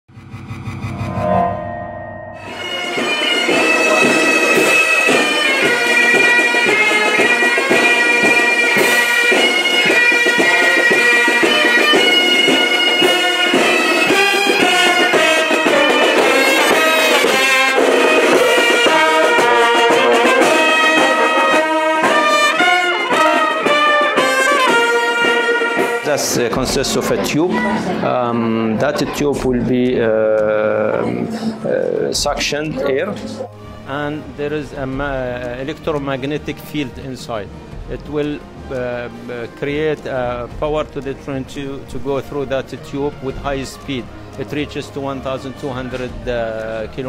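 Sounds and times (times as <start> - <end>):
bagpipes and brass marching band: 2.4 - 28.1, 34.9 - 47.0.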